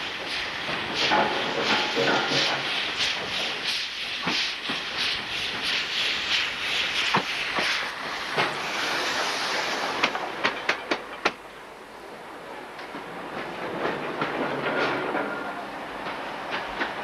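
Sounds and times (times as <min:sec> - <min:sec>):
train clattering on rails: 0:00.0 - 0:11.7, 0:12.5 - 0:17.0.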